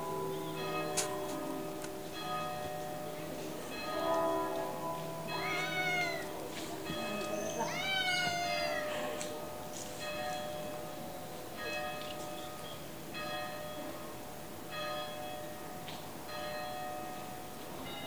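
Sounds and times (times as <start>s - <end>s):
church bell ringing: 0.0s - 8.0s, 8.7s - 18.0s.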